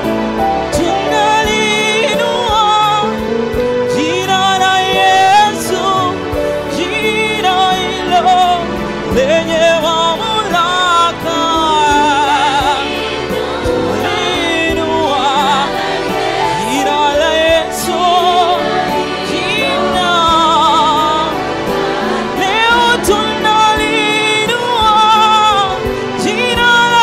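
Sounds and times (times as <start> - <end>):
gospel singing with vibrato: 0.0 - 27.0
instrumental accompaniment: 0.0 - 27.0.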